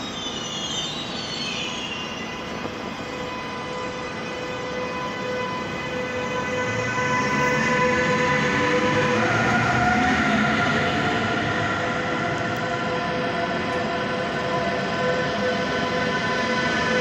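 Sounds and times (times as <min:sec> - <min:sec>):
electric locomotive whining: 0:00.0 - 0:17.0
high squeal: 0:00.0 - 0:17.0
train rumble: 0:02.1 - 0:17.0.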